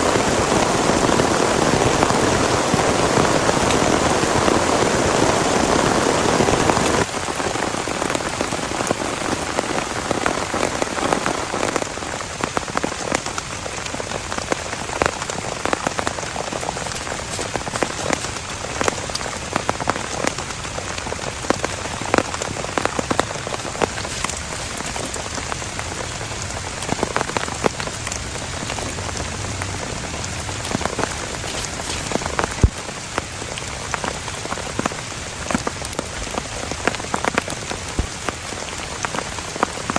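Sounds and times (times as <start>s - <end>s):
heavy rain: 0.0s - 39.9s
large raindrops tapping a surface: 0.0s - 39.9s.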